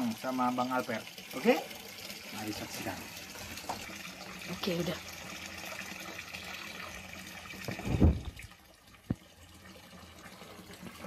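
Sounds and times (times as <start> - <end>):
water running from pipe: 0.0 - 11.0.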